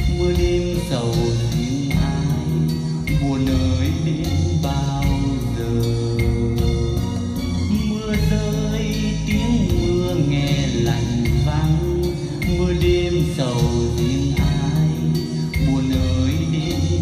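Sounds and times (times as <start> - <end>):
guitar and bass: 0.0 - 17.0
slow ballad over loudspeakers: 0.0 - 17.0.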